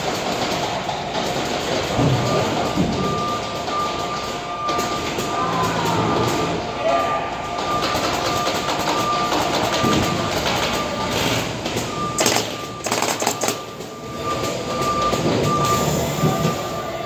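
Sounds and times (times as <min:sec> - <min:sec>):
steady machine noise: 0:00.0 - 0:17.0.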